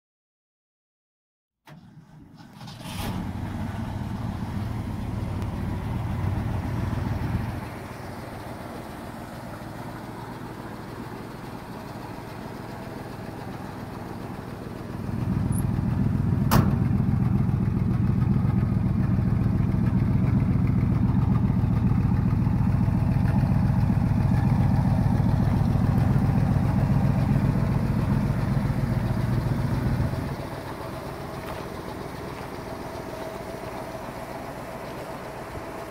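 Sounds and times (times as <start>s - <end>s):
pickup engine idling: 1.7s - 35.9s.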